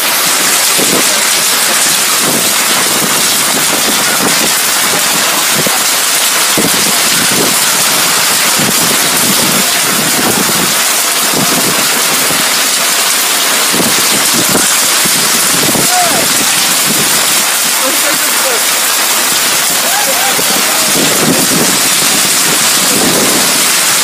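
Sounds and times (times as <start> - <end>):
heavy rain pouring: 0.0 - 24.0
wind gusts buffeting microphone: 0.0 - 24.0.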